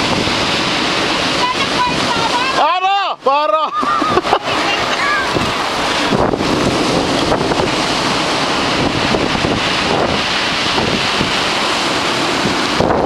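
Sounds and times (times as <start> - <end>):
wind buffeting microphone: 0.0 - 2.6, 3.7 - 13.0
sea waves breaking on shore: 0.0 - 13.0.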